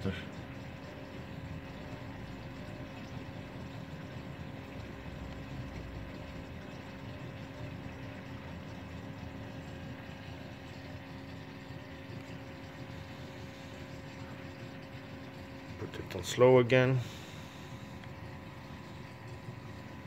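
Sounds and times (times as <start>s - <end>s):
water pump low hum: 0.0s - 20.0s.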